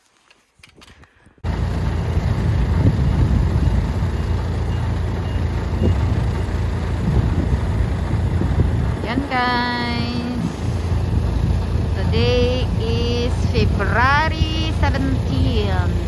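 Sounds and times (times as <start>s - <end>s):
diesel engine rumbling: 1.4s - 16.0s.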